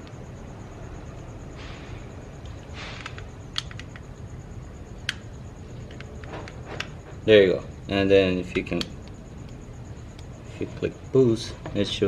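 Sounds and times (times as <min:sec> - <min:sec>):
low steady background hum: 0:00.0 - 0:12.0.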